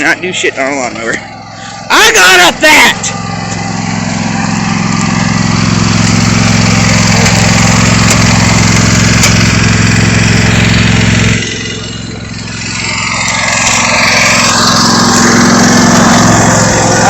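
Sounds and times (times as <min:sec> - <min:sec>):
riding lawn mower engine running: 0:00.0 - 0:17.0.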